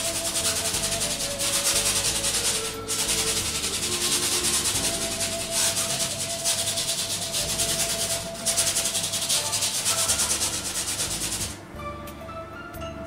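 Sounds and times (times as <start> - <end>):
paintbrush scrubbing canvas: 0.0 - 11.6.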